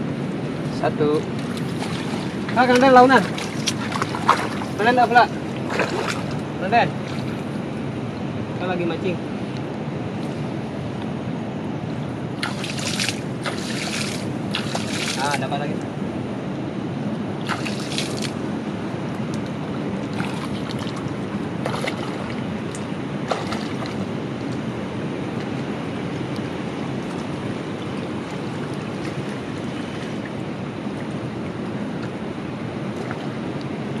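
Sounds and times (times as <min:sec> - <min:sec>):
rushing water: 0:00.0 - 0:10.9, 0:11.6 - 0:34.0
wind buffeting microphone: 0:00.0 - 0:34.0.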